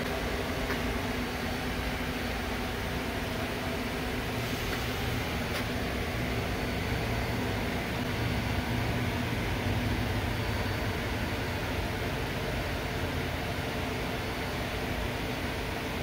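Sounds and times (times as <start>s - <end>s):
machine hum with low drone: 0.0s - 16.0s.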